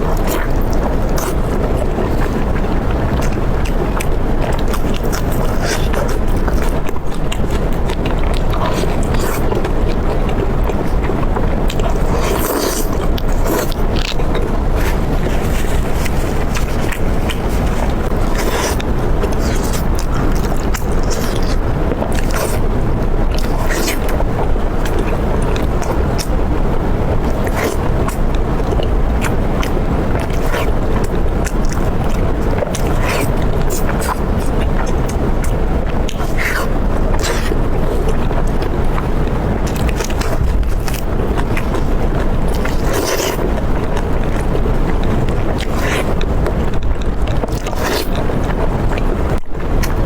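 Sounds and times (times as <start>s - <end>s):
chewing and wet mouth clicks: 0.0s - 26.5s, 27.2s - 50.0s
low rumble: 0.0s - 50.0s.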